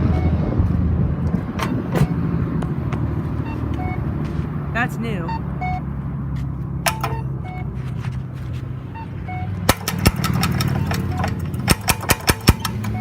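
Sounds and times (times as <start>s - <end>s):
vehicle engines in traffic: 0.0s - 13.0s.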